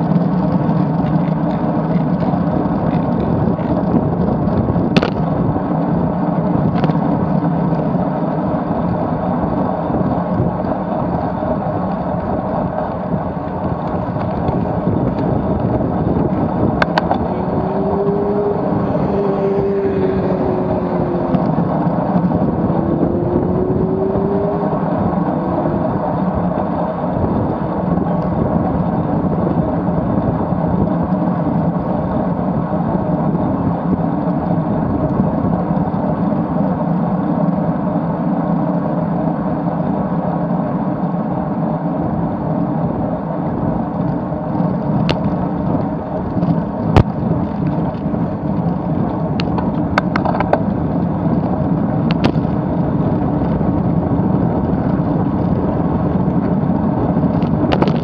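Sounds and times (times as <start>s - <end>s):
bicycle road noise: 0.0s - 58.0s
engine hum: 0.0s - 58.0s
wind rushing over microphone: 0.0s - 58.0s.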